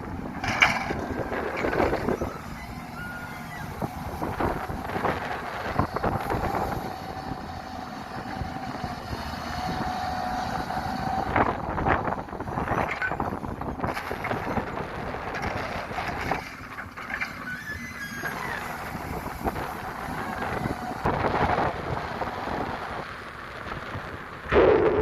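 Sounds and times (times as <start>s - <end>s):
excavator engine running: 0.0s - 25.0s
wind on microphone: 0.0s - 25.0s.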